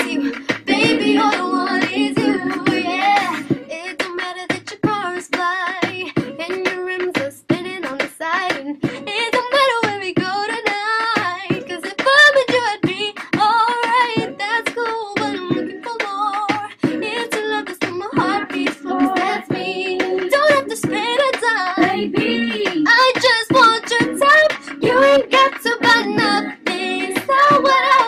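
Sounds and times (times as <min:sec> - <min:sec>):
woman singing: 0:00.0 - 0:28.0.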